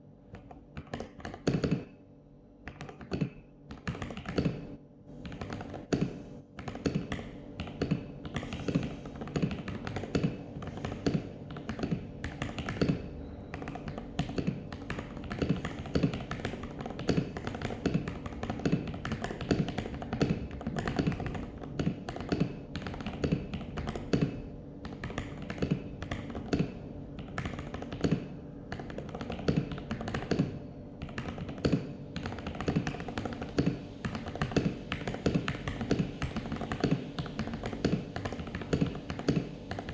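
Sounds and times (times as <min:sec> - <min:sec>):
mechanical keyboard typing: 0:00.3 - 0:01.9, 0:02.7 - 0:04.6, 0:05.2 - 0:39.9.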